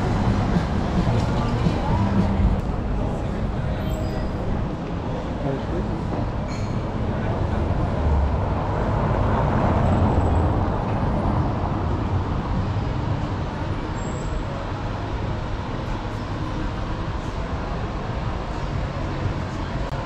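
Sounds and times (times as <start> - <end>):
street traffic noise: 0.0 - 20.0
vehicle engine rumble passing: 0.0 - 20.0.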